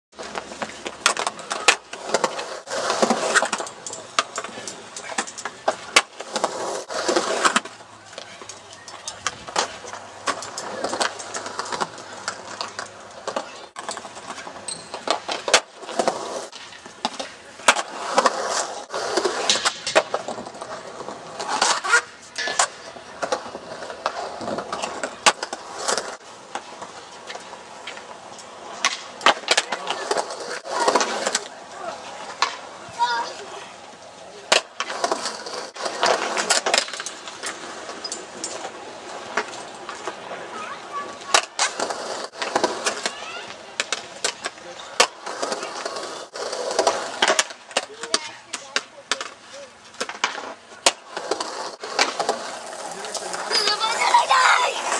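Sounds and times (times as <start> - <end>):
skateboard wheels rolling on concrete: 0.1 - 54.9
skateboard clacking on coping: 0.2 - 54.9.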